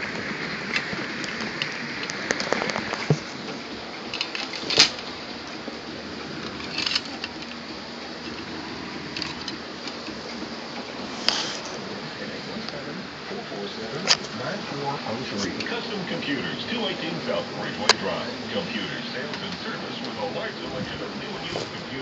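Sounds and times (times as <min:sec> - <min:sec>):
rustling handling noise: 0:00.0 - 0:13.0, 0:15.3 - 0:22.0
steady background hiss: 0:00.0 - 0:22.0.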